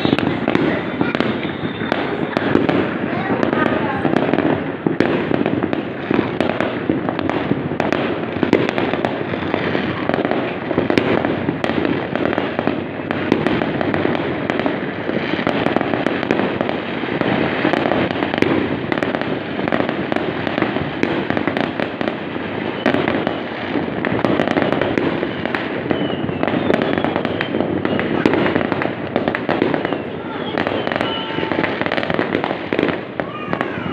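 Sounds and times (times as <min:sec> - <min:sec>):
fireworks crackling: 0:00.0 - 0:33.9.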